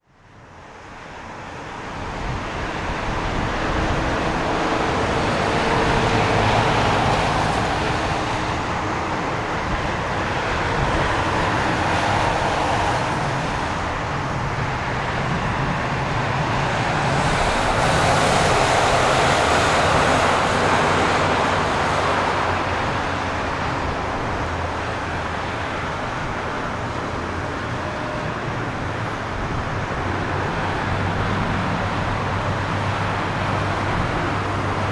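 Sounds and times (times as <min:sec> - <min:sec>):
jet engine rushing: 0:02.9 - 0:34.9.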